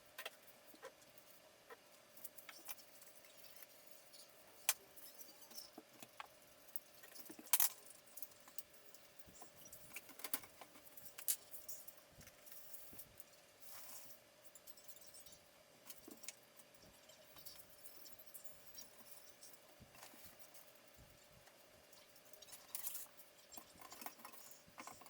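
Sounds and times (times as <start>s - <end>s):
faint steady hum: 0.0s - 25.0s
small hard parts clicking: 2.1s - 25.0s.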